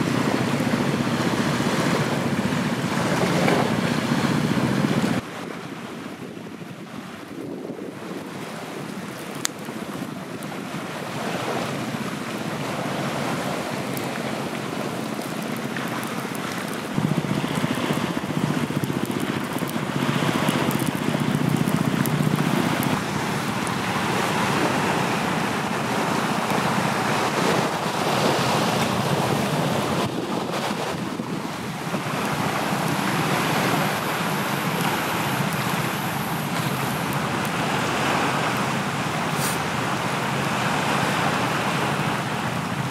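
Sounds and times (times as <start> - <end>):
campfire crackling: 0.0 - 5.2, 8.0 - 42.9
surf rushing: 0.0 - 42.9
wind on microphone: 0.0 - 42.9.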